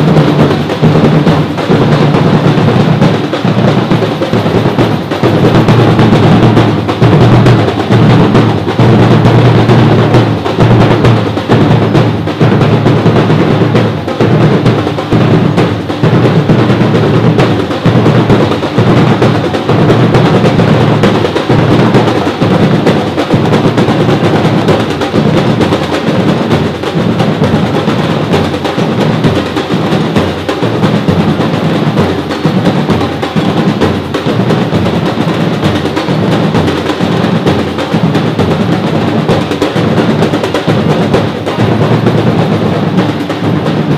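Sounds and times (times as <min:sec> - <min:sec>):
percussion group drumming: 0:00.0 - 0:43.9.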